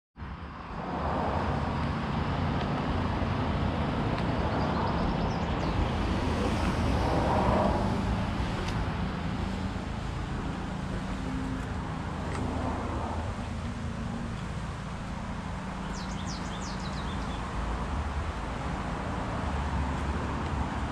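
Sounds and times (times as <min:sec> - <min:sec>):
road traffic rumble: 0:00.2 - 0:20.9
vehicle passing: 0:00.6 - 0:20.9.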